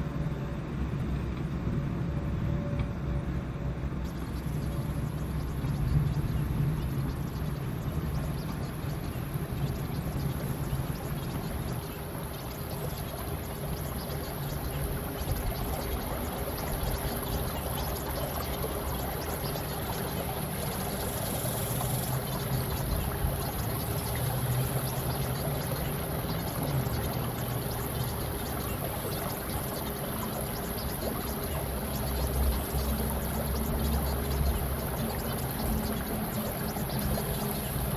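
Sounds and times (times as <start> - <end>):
faint steady tone: 1.8 - 37.9
running water: 4.0 - 37.9.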